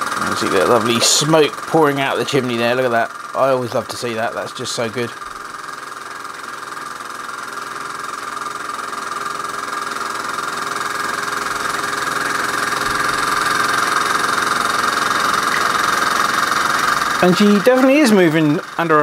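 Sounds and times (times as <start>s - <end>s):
model steam engine chatter: 0.0s - 19.0s.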